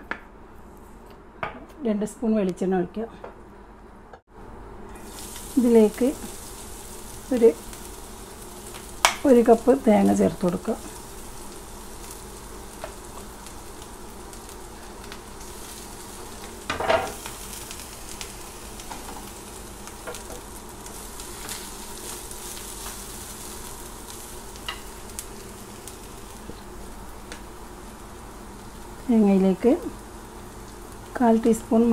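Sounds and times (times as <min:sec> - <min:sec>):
coconut sizzling in oil: 0:04.9 - 0:31.9.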